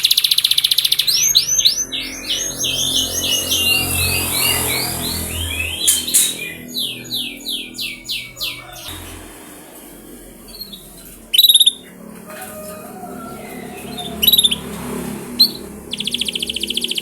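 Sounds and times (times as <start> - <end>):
buzzy trill: 0.0 - 17.0
canary singing: 0.0 - 17.0.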